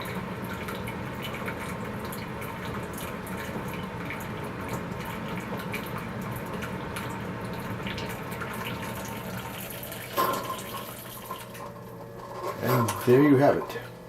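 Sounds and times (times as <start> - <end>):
hot water streaming into mug: 0.0 - 13.8
low pump hum: 0.0 - 14.0.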